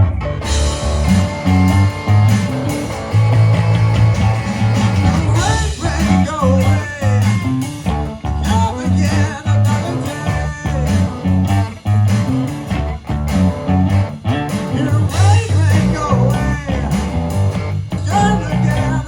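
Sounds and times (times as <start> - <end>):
bass line: 0.0 - 19.0
drums: 0.0 - 19.0
electric guitar lead: 0.0 - 19.0.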